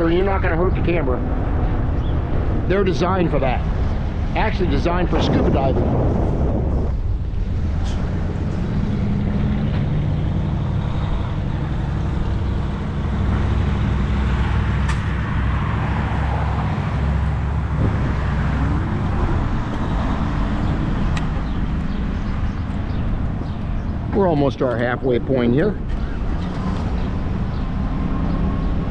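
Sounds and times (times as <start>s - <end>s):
wind rumble on microphone: 0.0s - 28.9s
fat tyres rolling: 5.2s - 28.9s.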